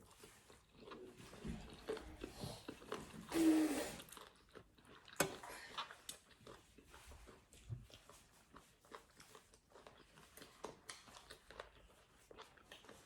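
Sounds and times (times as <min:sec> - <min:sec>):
person chewing: 0:00.0 - 0:03.4, 0:04.0 - 0:13.0.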